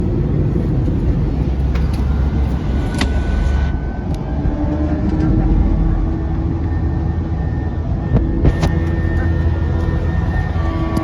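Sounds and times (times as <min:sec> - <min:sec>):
airliner low rumble: 0:00.0 - 0:11.0.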